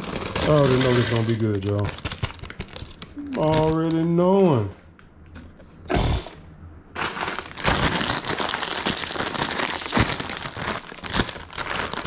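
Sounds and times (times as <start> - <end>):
plastic snack bag crinkling: 0.0 - 4.7, 7.0 - 12.0.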